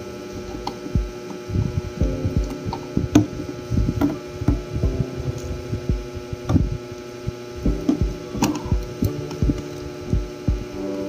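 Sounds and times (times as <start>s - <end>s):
electric fan humming: 0.0s - 11.0s
low buffeting thumps: 0.9s - 10.8s.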